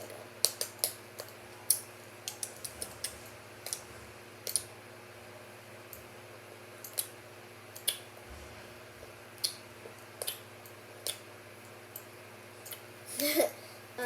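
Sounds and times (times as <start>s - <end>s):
faint fan hum: 0.0s - 14.0s.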